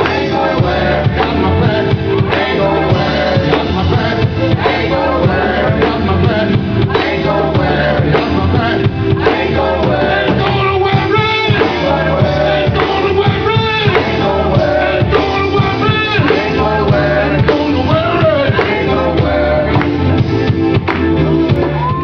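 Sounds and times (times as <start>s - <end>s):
bass line: 0.0s - 22.0s
drum beat: 0.0s - 22.0s
gospel singers: 0.0s - 22.0s.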